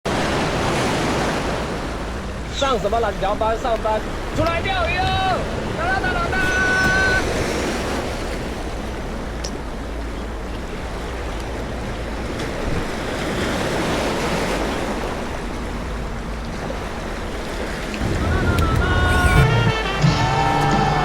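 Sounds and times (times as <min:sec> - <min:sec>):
sea surf washing ashore: 0:00.1 - 0:21.0.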